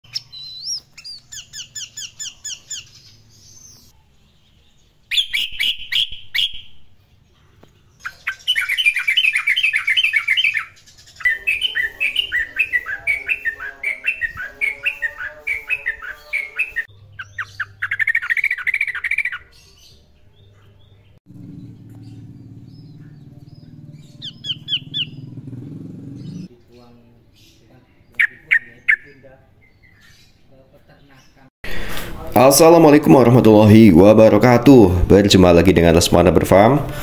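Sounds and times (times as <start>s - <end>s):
birds calling and singing: 0.0s - 37.0s.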